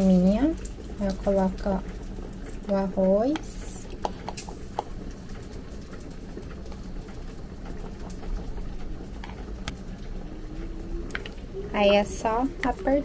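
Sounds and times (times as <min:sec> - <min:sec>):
low kitchen background noise: 0:00.0 - 0:13.0.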